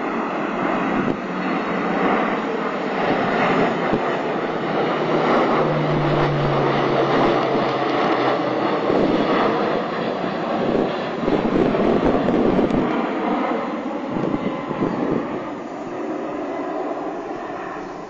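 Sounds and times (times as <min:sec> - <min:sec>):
airplane engines flying by: 0:00.0 - 0:18.0.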